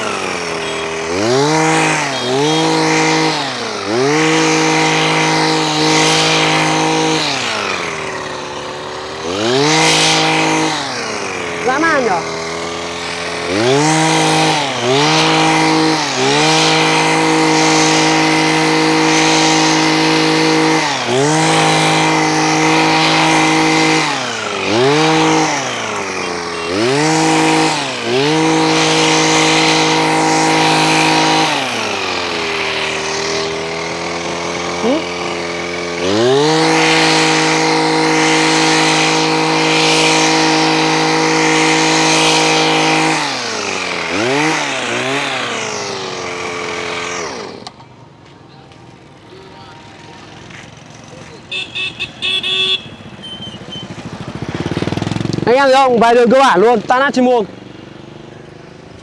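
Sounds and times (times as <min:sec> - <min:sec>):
hedge trimmer engine revving: 0:00.0 - 0:59.0.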